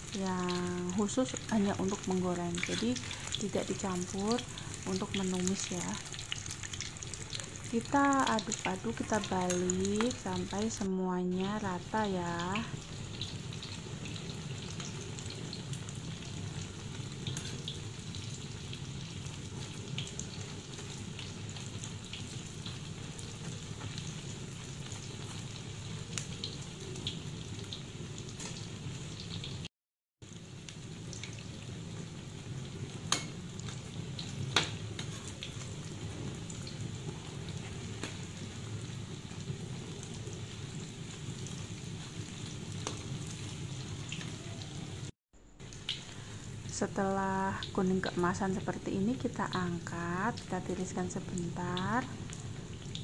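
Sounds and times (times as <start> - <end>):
food sizzling in hot oil: 0.0 - 53.0.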